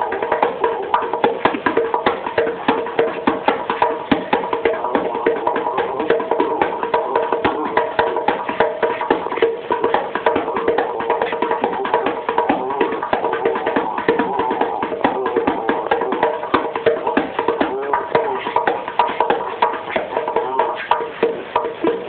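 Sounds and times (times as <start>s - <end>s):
bongos played fast: 0.0s - 22.0s.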